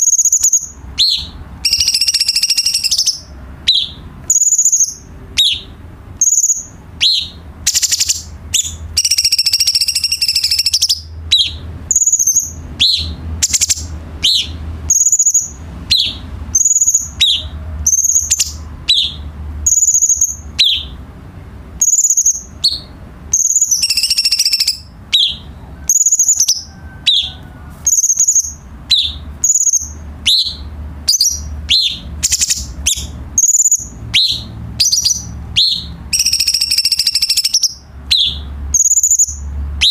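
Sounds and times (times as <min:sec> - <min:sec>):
bird singing high calls: 0:00.0 - 0:21.0, 0:21.8 - 0:39.9
bird chattering phrases: 0:00.0 - 0:21.1, 0:21.7 - 0:39.9.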